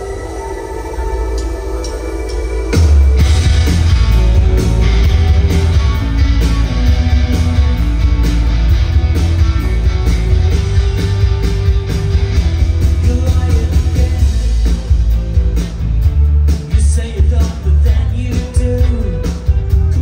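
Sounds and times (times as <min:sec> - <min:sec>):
rock band playing loudly: 0:01.0 - 0:20.0.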